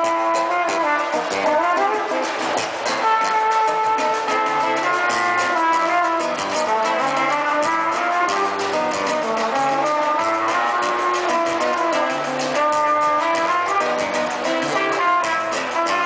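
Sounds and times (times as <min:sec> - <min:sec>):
brass section melody: 0:00.0 - 0:16.0
guitar: 0:00.0 - 0:16.0
percussion beat: 0:00.0 - 0:16.0.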